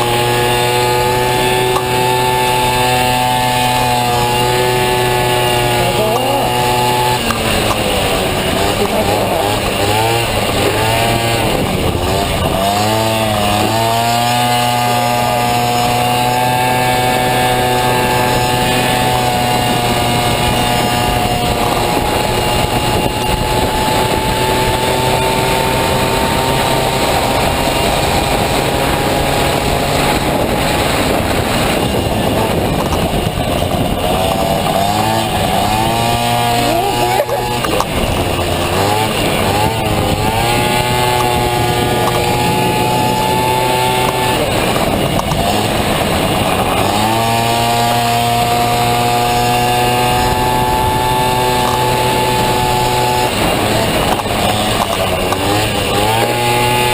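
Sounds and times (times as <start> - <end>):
two-stroke scooter engine revving: 0.0 - 56.9.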